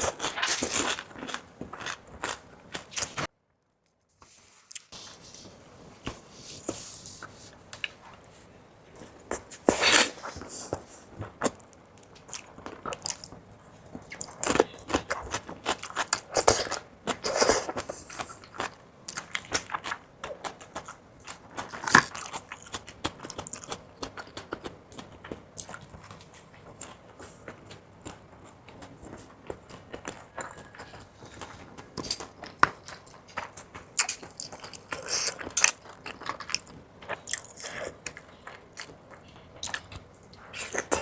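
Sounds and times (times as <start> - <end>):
biting and chewing food: 0.0 - 3.3, 8.9 - 41.0.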